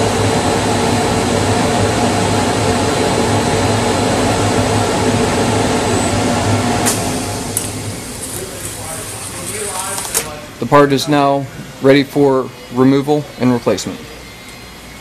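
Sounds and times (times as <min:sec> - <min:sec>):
exhaust blower humming: 0:00.0 - 0:12.4.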